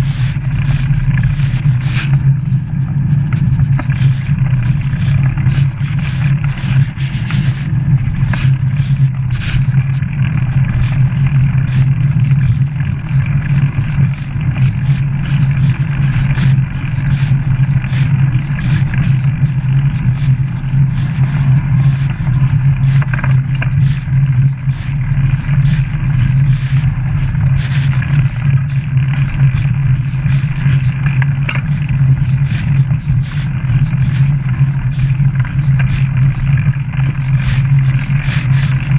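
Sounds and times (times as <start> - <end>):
bicycle riding rumble: 0.0 - 38.9
small clicks and rattles: 0.2 - 38.9.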